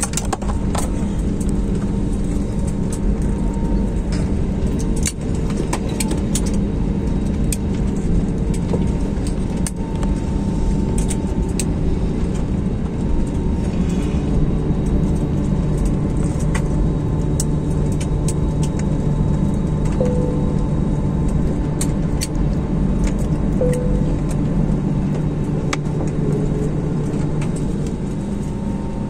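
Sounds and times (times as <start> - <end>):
jet engines rumbling: 0.0 - 29.0
steady hum: 0.0 - 29.0.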